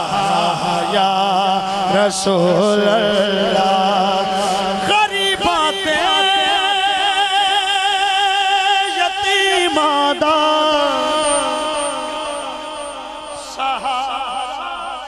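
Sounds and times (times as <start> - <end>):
man singing with vibrato: 0.0 - 15.0.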